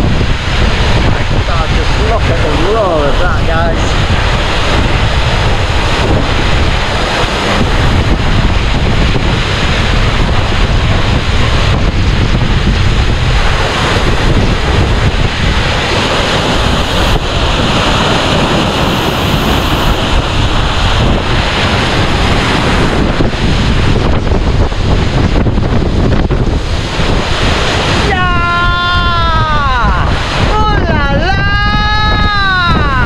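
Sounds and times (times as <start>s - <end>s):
waterfall roaring: 0.0s - 33.0s
wind buffeting microphone: 0.0s - 33.0s.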